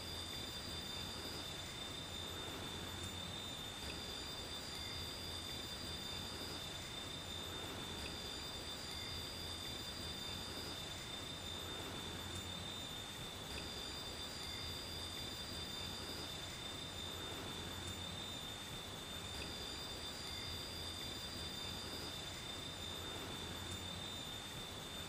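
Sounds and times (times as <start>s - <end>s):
insects singing: 0.0s - 25.0s
steady hiss: 0.0s - 25.0s.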